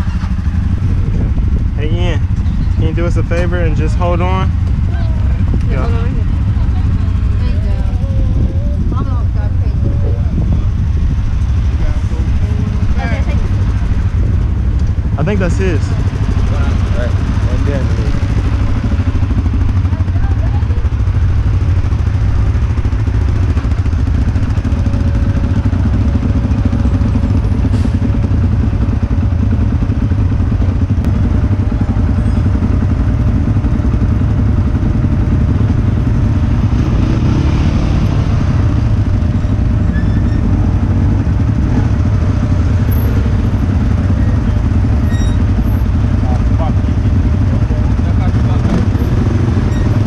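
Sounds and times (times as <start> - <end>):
quad bike engines running: 0.0 - 50.0.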